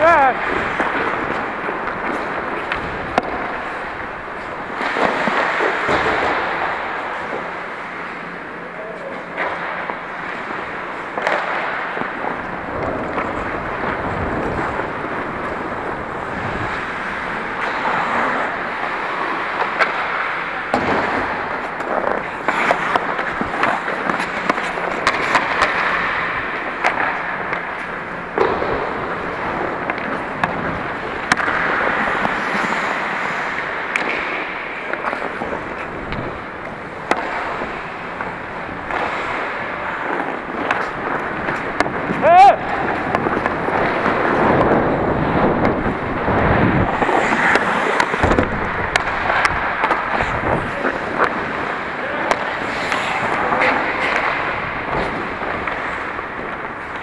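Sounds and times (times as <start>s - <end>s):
hockey sticks and puck clacking: 0.0s - 57.0s
skates scraping on ice: 0.0s - 57.0s.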